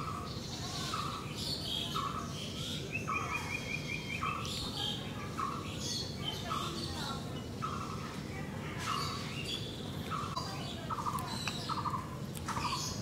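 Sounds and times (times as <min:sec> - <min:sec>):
birds chirping high: 0:00.0 - 0:13.0.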